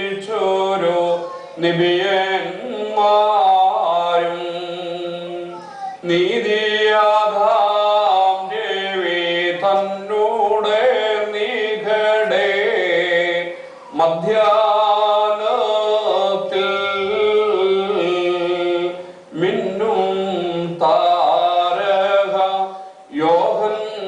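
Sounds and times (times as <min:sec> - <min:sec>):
liturgical chant singing: 0:00.0 - 0:24.0.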